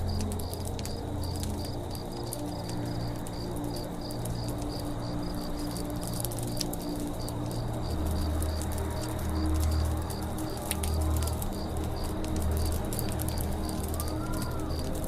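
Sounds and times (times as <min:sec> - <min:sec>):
insect chirping: 0:00.0 - 0:14.9
campfire crackling: 0:00.0 - 0:15.0.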